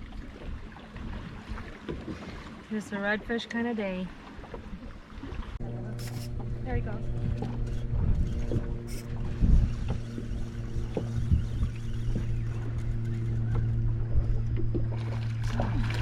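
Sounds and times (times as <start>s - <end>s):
boat motor humming: 0.0s - 16.0s
knocks and thumps on boat: 0.2s - 3.6s, 6.4s - 16.0s.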